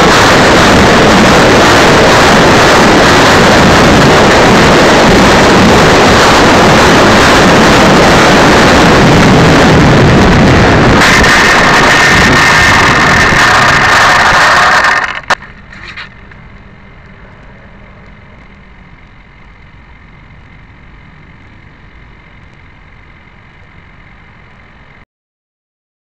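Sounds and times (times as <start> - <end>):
electric ducted fans rushing: 0.0 - 25.0
faint steady hum: 0.0 - 25.0
wind over camera: 0.0 - 25.0.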